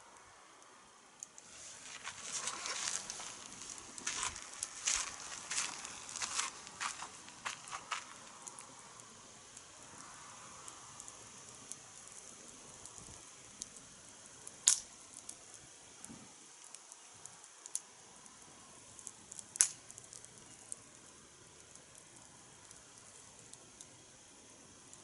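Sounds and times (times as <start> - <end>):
wood fire crackling: 0.0 - 25.0
fire pops: 1.2 - 25.0.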